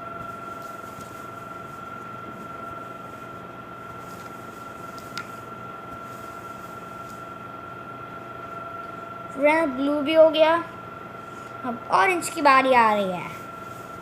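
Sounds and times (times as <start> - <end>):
steady background hum: 0.0 - 14.0
thin high whine: 0.0 - 14.0.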